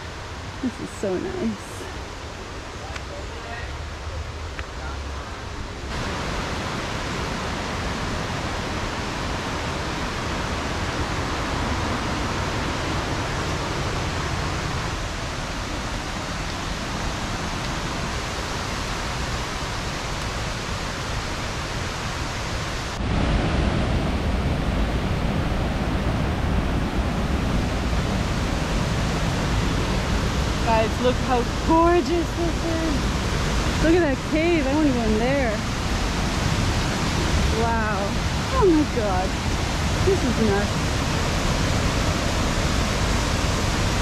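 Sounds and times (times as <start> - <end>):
river and waterfalls rushing: 0.0 - 44.0.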